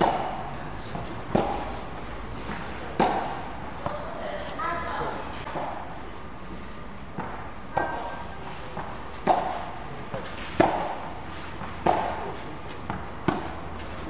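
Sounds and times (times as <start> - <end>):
racket hitting tennis ball: 0.0 - 4.5, 5.4 - 5.9, 7.1 - 14.0.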